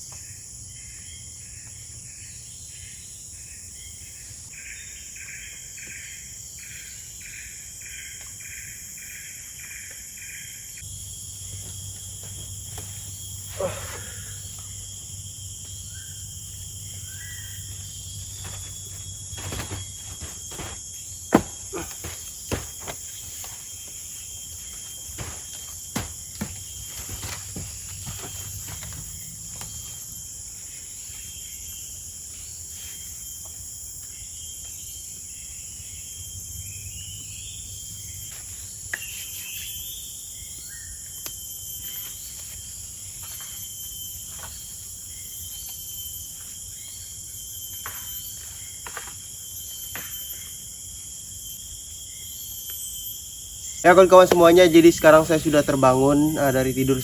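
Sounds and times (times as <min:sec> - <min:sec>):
insects chorus: 0:00.0 - 0:57.0
faint chirps: 0:00.2 - 0:57.0.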